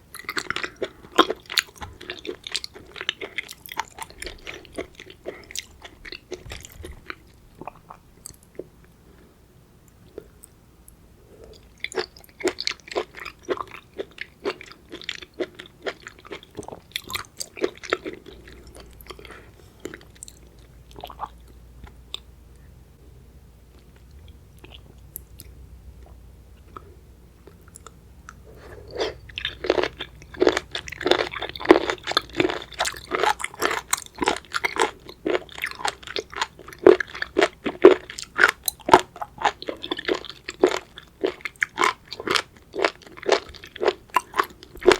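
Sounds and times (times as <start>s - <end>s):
wet chewing and crunching: 0.1s - 8.7s, 11.5s - 22.2s, 23.7s - 44.9s.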